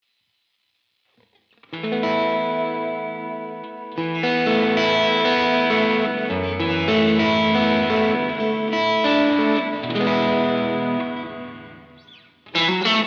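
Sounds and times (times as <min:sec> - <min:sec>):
overdriven electric guitar chords: 0:01.2 - 0:13.0.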